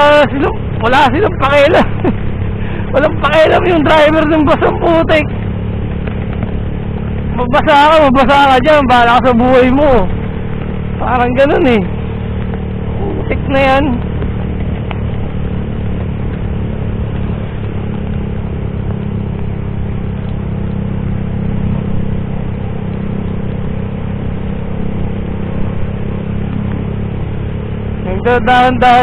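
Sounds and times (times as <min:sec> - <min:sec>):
motorcycle engine running: 0:00.0 - 0:29.0
rain and tyres hissing on wet road: 0:00.0 - 0:29.0.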